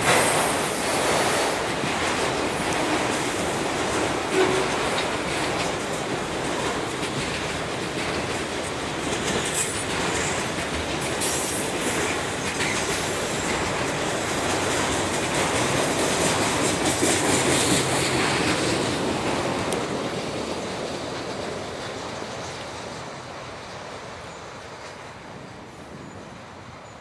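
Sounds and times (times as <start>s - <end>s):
freight train clattering past: 0.0s - 27.0s.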